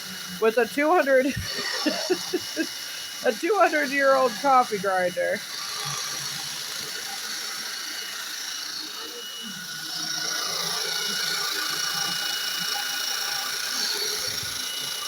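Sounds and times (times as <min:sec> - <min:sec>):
coffee grinder grinding beans: 0:00.0 - 0:15.0.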